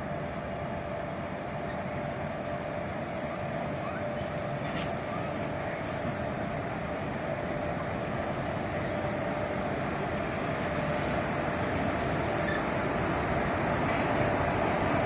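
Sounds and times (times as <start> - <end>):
locomotive hum: 0.0 - 15.0
train running rumble: 0.0 - 15.0.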